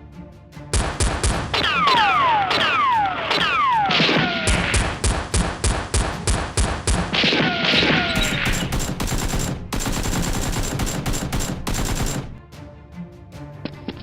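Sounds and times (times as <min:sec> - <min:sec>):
automatic gunfire: 0:00.8 - 0:12.4.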